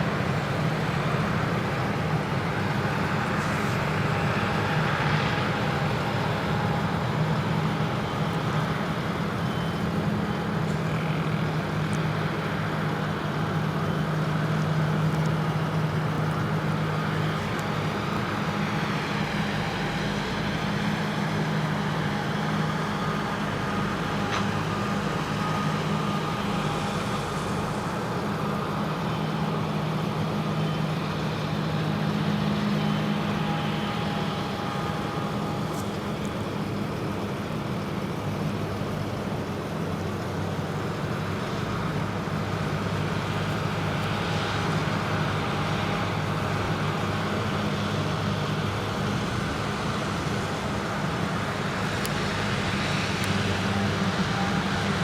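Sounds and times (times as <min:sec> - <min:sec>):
deep engine drone: 0:00.0 - 0:55.0.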